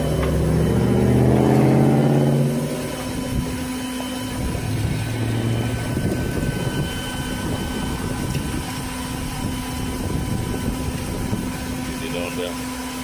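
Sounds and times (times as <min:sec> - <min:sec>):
tow truck engine running: 0:00.0 - 0:11.9.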